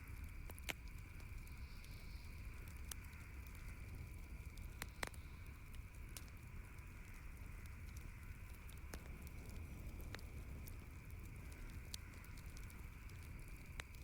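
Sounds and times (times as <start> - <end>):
campfire crackling: 0.0 - 14.0
low rumble of burning fire: 0.0 - 14.0
sharp pops and snaps of fire: 0.0 - 14.0.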